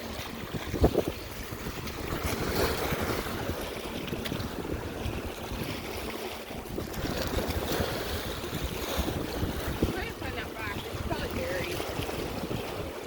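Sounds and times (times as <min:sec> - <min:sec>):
choppy lake waves: 0:00.0 - 0:13.0
wind buffeting microphone: 0:00.0 - 0:13.0.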